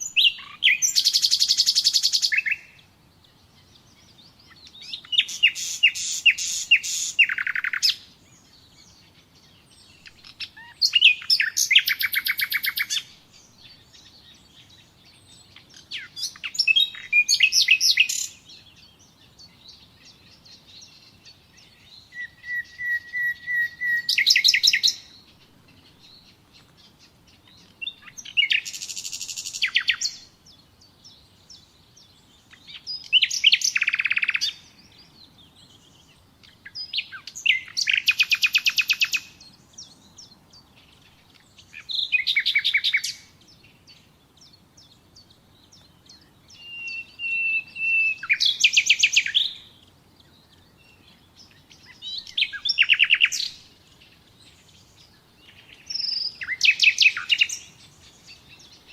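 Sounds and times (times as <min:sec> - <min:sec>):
nightingale singing: 0:00.0 - 0:58.9.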